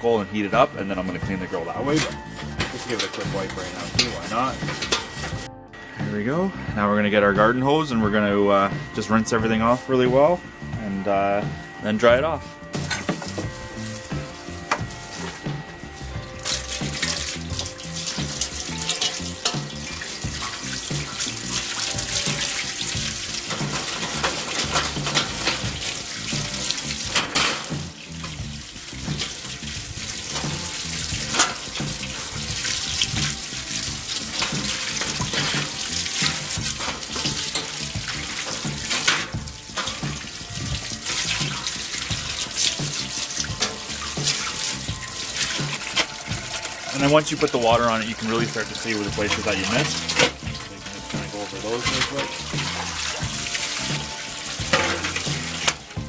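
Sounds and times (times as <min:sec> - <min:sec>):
background music: 0:00.0 - 0:56.0
hose spraying water on grill: 0:00.0 - 0:56.0.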